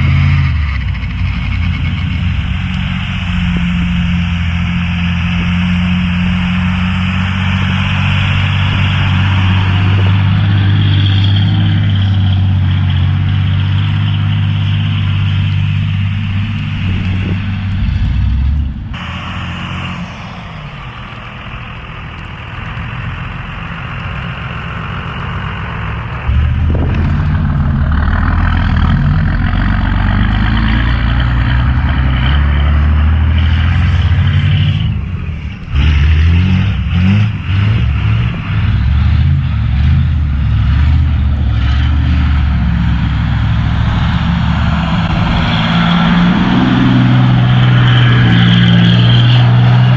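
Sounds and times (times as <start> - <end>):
diesel truck engine running: 0.0 - 49.9
road and wind noise: 0.0 - 49.9.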